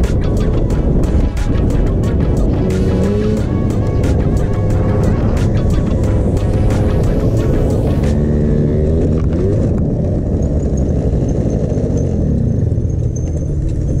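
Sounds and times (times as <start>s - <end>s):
scooter engine running: 0.0s - 14.0s
wind noise on microphone: 0.0s - 14.0s.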